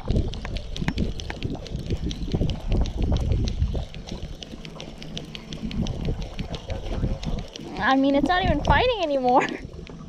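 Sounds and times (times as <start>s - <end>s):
fishing reel cranking: 0.0s - 10.0s
quick light ticks: 0.0s - 10.0s
wind buffeting microphone: 0.0s - 10.0s.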